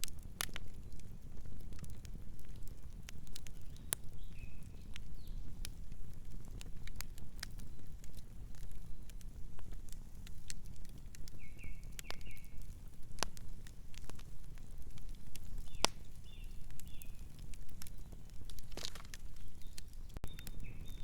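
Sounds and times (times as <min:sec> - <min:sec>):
campfire wood crackling: 0:00.0 - 0:21.0
low rumble of flames: 0:00.0 - 0:21.0.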